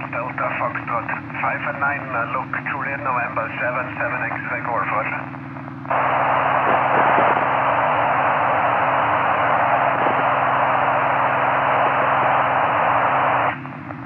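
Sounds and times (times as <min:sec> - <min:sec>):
radio static hiss: 0:00.0 - 0:14.0
low steady buzz: 0:00.1 - 0:14.0.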